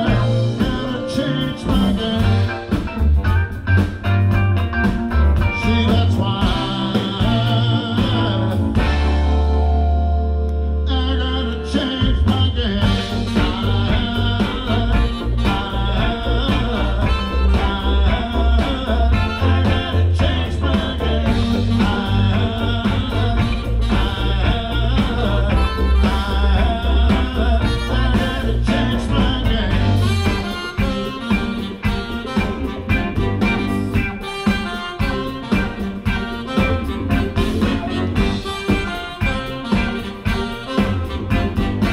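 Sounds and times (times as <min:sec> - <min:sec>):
trumpet: 0:00.0 - 0:03.3, 0:05.6 - 0:41.9
bass: 0:00.0 - 0:41.9
drums: 0:00.0 - 0:41.9
electric guitars: 0:00.0 - 0:41.9
keyboards: 0:00.0 - 0:41.9
saxophones: 0:05.6 - 0:41.9.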